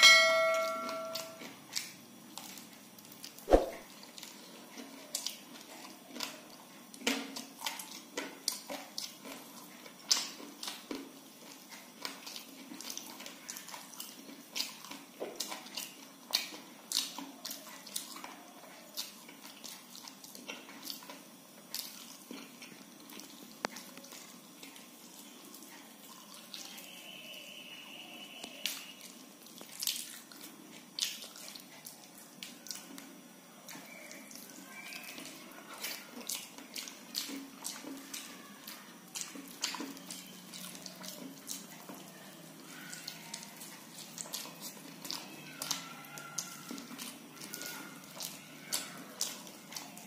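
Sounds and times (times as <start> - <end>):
wet chewing and smacking: 0.6 - 27.2, 28.4 - 50.0.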